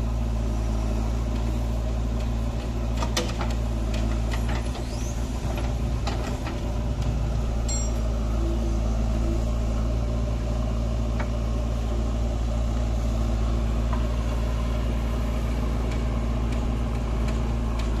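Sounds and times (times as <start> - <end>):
backhoe diesel engine running: 0.0 - 18.0.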